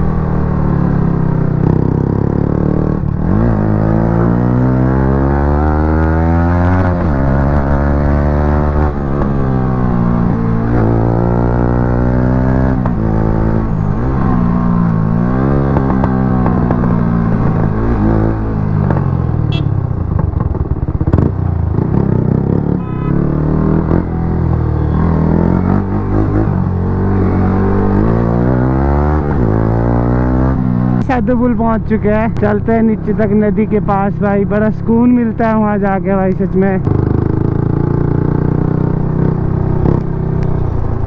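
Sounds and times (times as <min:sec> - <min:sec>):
motorcycle engine revving: 0:00.0 - 0:33.8, 0:36.8 - 0:41.0.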